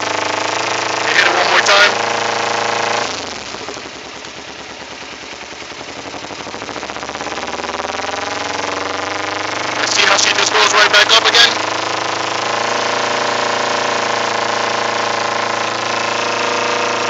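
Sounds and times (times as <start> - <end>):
motorcycle engine idling fast: 0.0 - 17.0.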